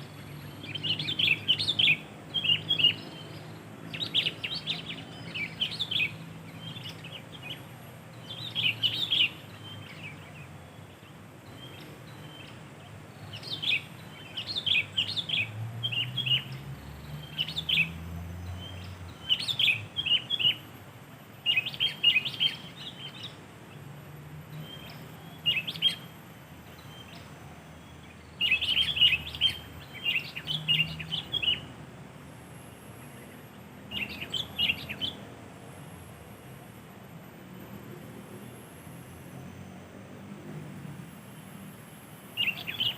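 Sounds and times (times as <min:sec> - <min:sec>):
bird chirping: 0:00.0 - 0:31.8, 0:32.7 - 0:36.5, 0:41.0 - 0:42.9.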